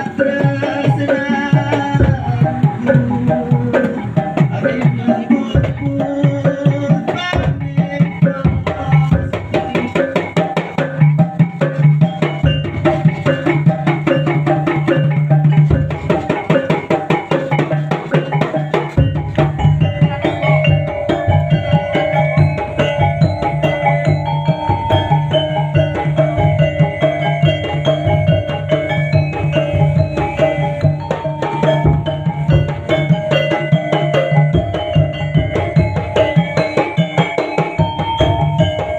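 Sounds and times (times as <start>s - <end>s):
hand drums and percussion: 0.0s - 38.9s
sustained ringing tones: 0.0s - 38.9s.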